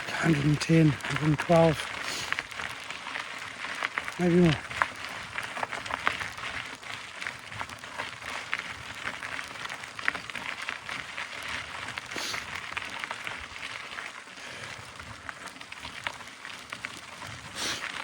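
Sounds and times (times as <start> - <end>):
bike tyres rolling on gravel: 0.0 - 18.0.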